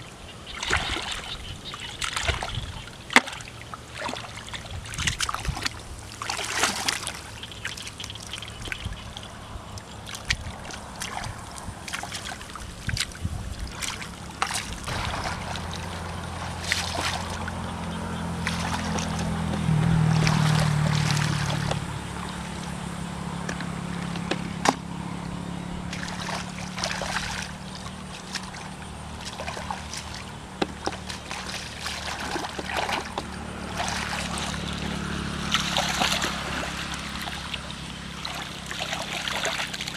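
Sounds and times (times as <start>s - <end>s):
low steady hum: 0.0s - 39.9s
hands splashing in muddy water: 0.6s - 9.1s, 10.1s - 21.8s, 25.9s - 39.9s.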